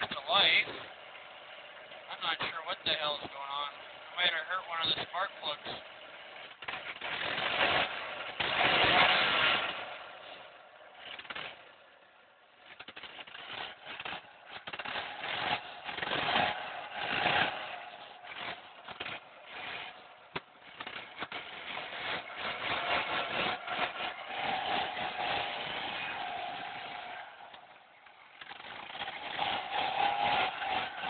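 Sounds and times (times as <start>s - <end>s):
car engine running rough: 0.0s - 31.0s.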